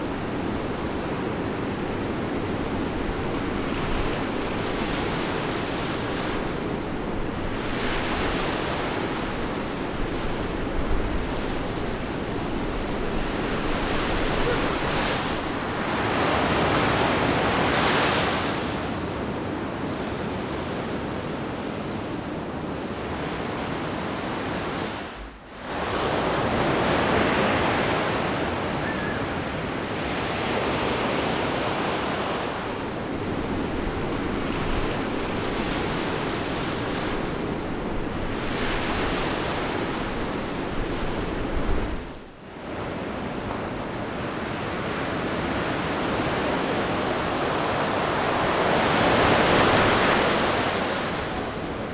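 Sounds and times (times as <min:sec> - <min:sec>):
ocean surf breaking: 0:00.0 - 0:19.0, 0:23.0 - 0:51.9.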